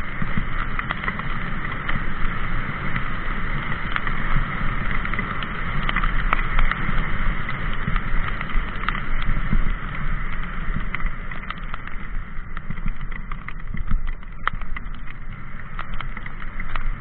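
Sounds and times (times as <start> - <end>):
bike rattling clicks: 0.0 - 17.0
wind and tyres rumbling: 0.0 - 17.0.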